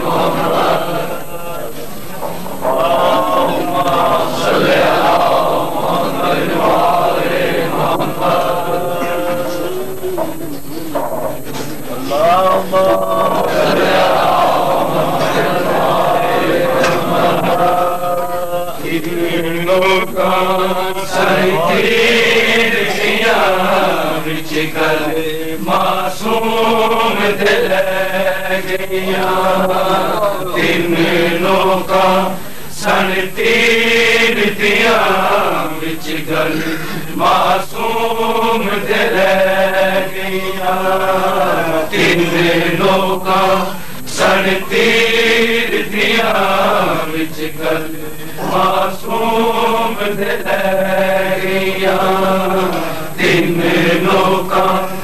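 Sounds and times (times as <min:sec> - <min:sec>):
men chanting a mourning lament: 0:00.0 - 0:55.0.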